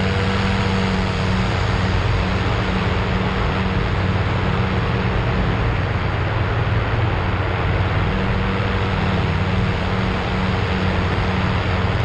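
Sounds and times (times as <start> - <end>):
propeller engine drone: 0.0 - 12.0.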